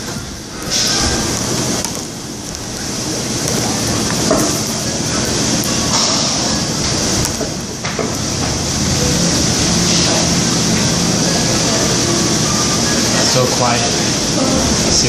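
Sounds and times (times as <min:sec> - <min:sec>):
restaurant background hiss: 0:00.0 - 0:15.0.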